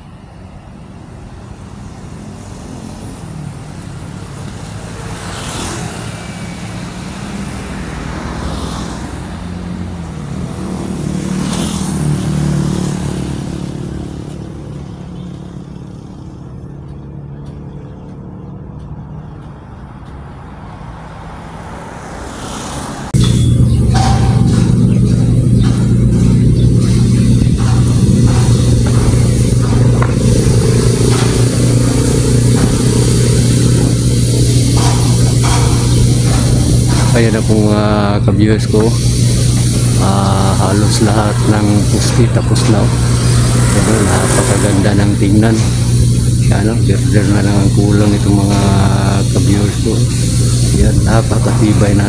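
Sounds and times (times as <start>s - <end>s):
vehicles passing by: 0.0s - 52.0s
vehicle engine running: 2.2s - 52.0s.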